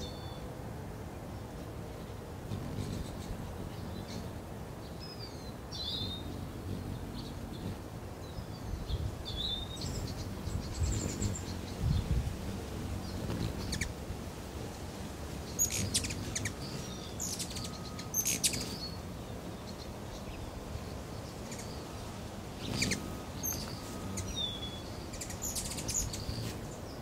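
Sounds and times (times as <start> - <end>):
hummingbirds chipping: 0.0 - 27.0.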